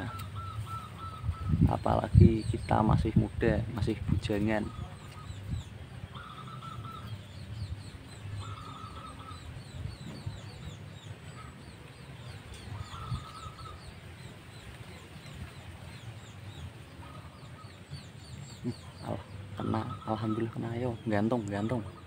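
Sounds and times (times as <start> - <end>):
doves cooing: 0.0 - 22.0
small birds chirping: 0.0 - 22.0.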